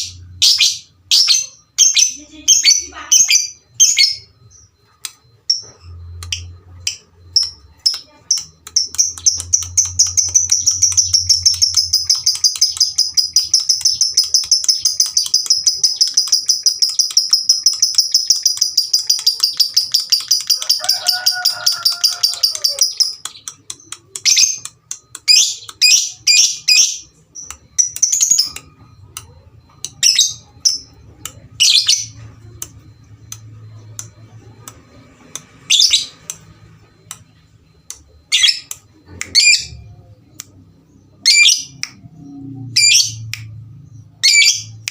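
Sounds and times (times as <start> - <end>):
lovebird chirps: 0.0 - 44.9.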